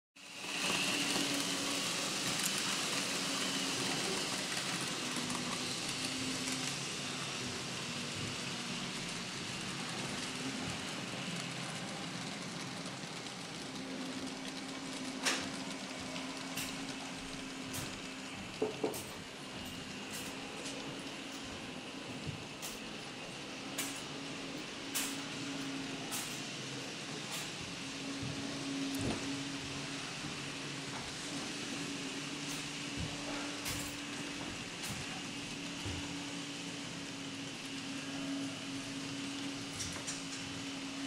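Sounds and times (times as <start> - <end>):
model train wheels rolling: 0.2 - 41.0.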